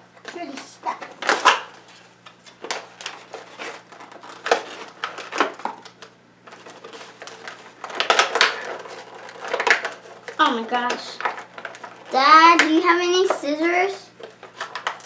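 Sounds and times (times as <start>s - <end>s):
plastic packaging crinkling: 1.1s - 12.9s, 14.2s - 15.0s.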